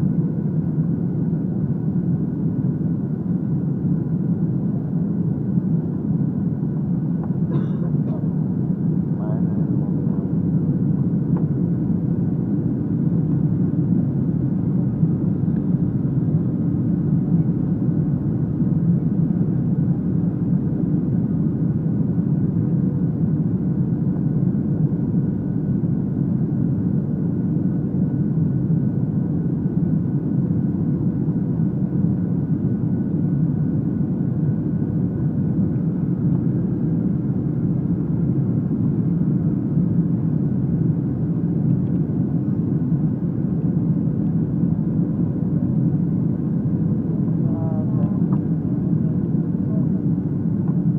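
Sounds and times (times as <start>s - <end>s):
airplane cabin rumble: 0.0s - 50.9s
faint steady hum: 0.0s - 50.9s.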